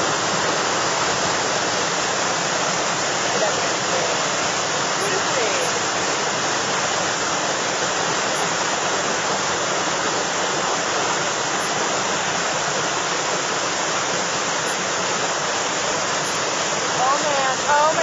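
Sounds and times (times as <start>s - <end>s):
whitewater roaring: 0.0s - 18.0s.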